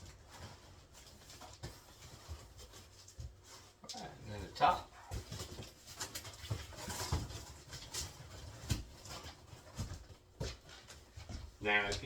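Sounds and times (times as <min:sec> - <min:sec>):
cardboard scraping rustles: 0:00.0 - 0:11.9.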